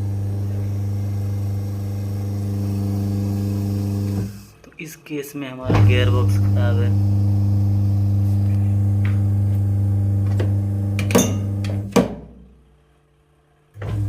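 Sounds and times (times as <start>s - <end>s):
washing machine motor hum: 0.0s - 12.1s, 13.7s - 14.0s.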